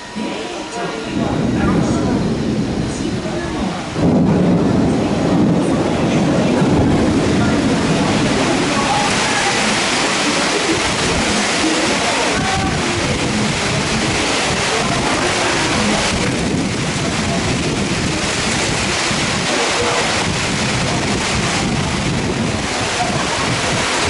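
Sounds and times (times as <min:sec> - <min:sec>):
faint voices: 0:00.0 - 0:24.0
heavy rain pouring: 0:00.0 - 0:24.0.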